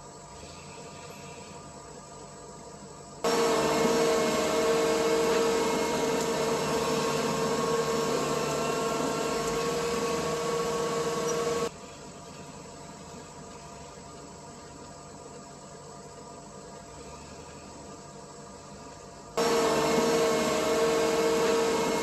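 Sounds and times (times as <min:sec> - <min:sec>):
loader engine mechanical whine: 0:00.0 - 0:22.0.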